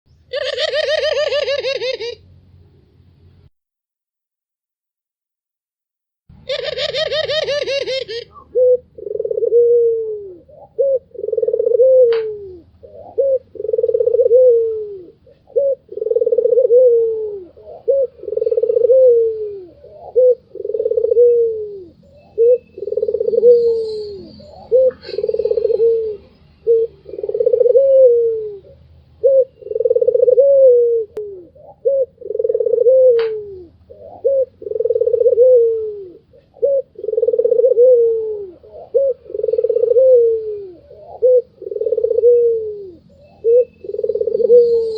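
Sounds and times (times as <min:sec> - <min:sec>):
dove cooing: 0:00.3 - 0:02.2, 0:06.4 - 0:44.9.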